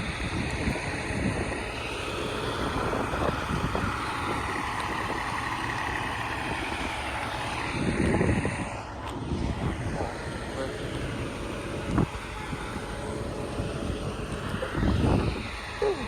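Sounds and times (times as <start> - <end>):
fire engine running: 0.0 - 16.0.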